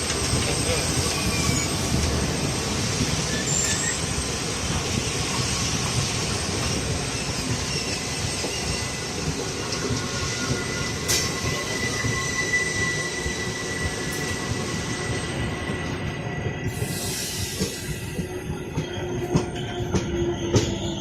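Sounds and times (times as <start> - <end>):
train rumbling on rails: 0.0 - 21.0
high wheel squeal: 0.3 - 21.0.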